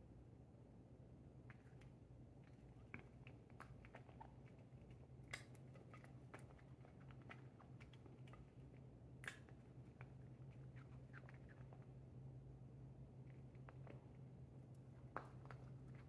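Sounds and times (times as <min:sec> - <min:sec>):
cat chewing crunches: 0:01.5 - 0:12.2, 0:13.0 - 0:16.0.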